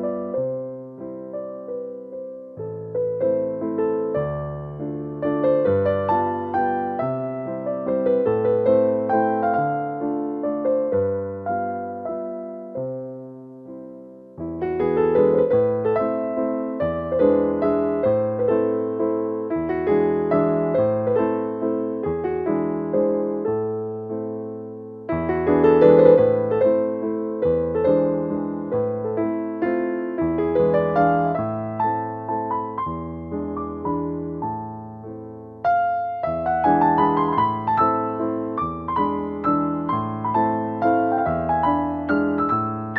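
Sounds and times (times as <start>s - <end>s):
soft piano melody: 0.0s - 42.9s.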